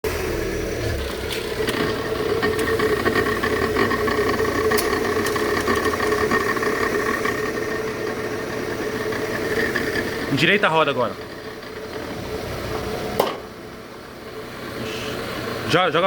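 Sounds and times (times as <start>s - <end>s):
car engine idling: 0.0s - 16.0s
suspension clicking: 1.0s - 15.8s.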